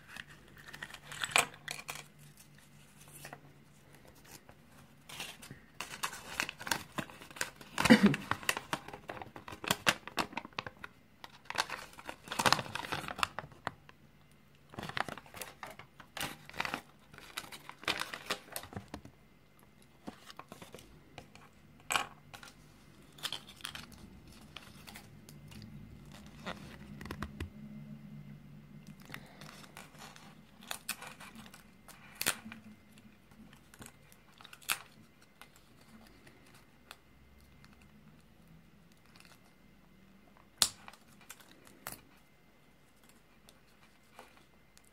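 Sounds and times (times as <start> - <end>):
paper crinkling and rustling: 0.0 - 13.9, 14.7 - 19.1, 19.8 - 27.5, 29.0 - 39.6, 40.6 - 44.9.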